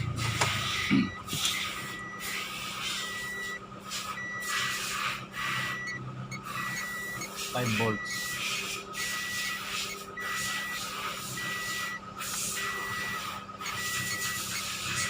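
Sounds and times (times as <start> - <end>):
electronic warning beeper: 0.6 - 4.8, 5.4 - 15.0.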